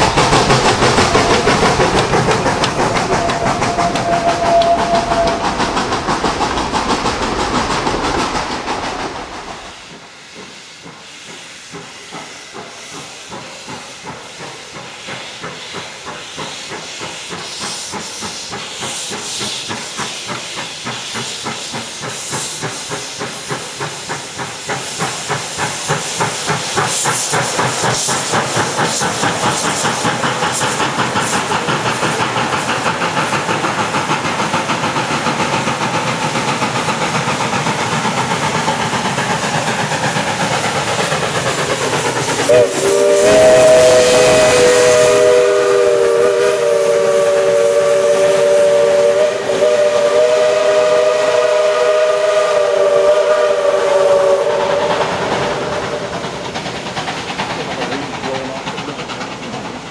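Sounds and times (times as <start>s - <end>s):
hissing steam: 0.0s - 59.9s
steam locomotive exhaust chuffs: 0.0s - 59.9s.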